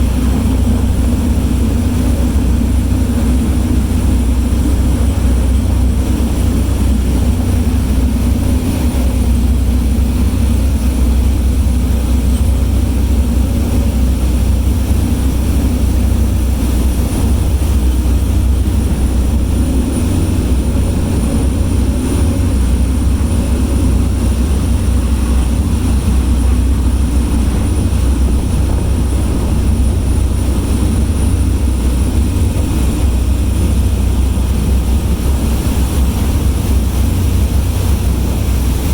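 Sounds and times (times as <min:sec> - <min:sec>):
ferry engines droning: 0:00.0 - 0:38.9.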